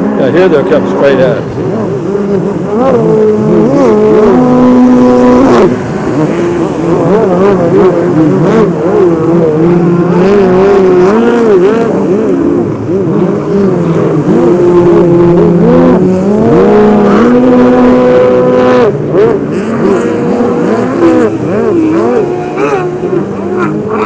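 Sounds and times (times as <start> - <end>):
engine steady high note: 0.0 - 24.0
jet ski engines revving: 0.0 - 24.0.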